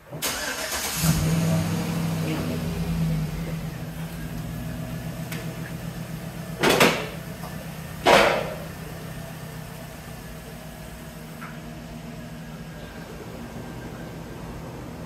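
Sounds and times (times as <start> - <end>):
truck engine idling: 0.3 - 15.0.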